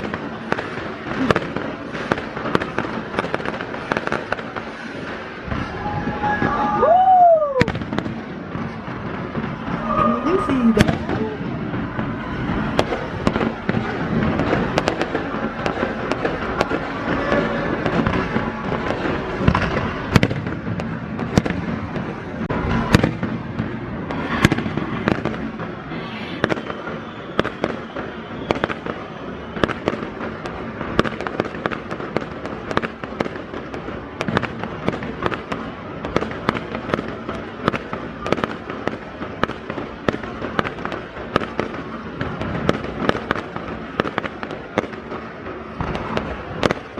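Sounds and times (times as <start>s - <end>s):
crackling rumble of fireworks: 0.0s - 46.9s
firework bangs: 0.0s - 46.9s.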